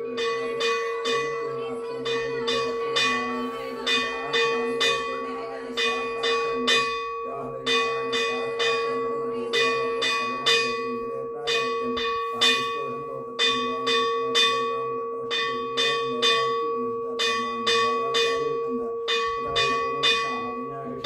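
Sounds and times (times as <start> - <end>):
temple bell ringing: 0.0 - 21.0.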